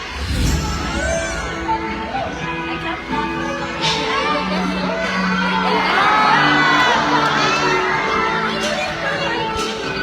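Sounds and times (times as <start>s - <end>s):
audience cheering and shouting: 0.0s - 10.0s
background music: 0.0s - 10.0s.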